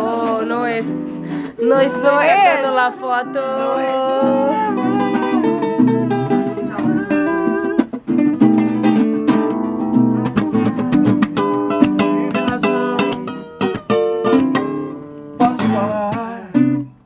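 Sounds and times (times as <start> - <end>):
plucked string instruments: 0.0 - 17.0.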